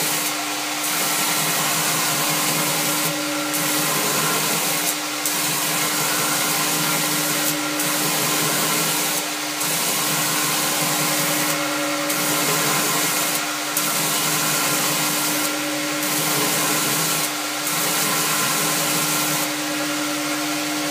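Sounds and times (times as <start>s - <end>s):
belt grinder grinding steel: 0.0s - 19.5s.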